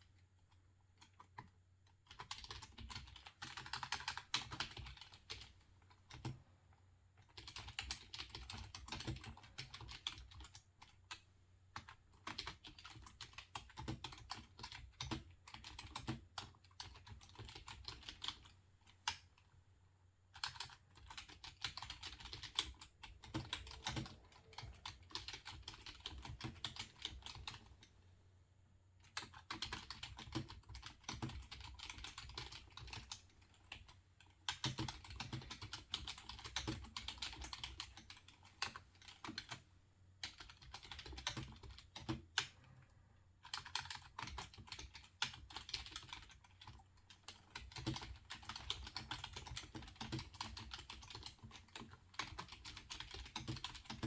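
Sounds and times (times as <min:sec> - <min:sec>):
typing on a computer keyboard: 0:00.1 - 0:06.4, 0:07.2 - 0:19.6, 0:20.3 - 0:27.9, 0:29.0 - 0:54.0.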